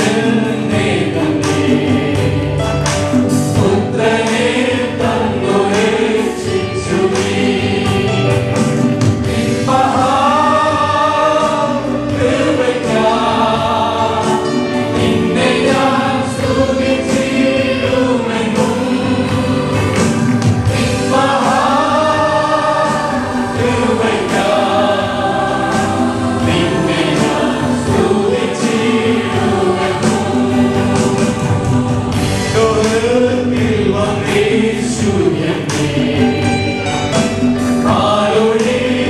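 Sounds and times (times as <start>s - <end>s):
choir singing gospel: 0.0s - 39.0s.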